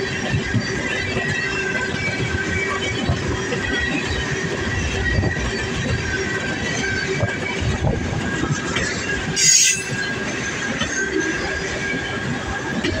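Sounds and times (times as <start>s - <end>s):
freight cars rumbling over rails: 0.0s - 13.0s.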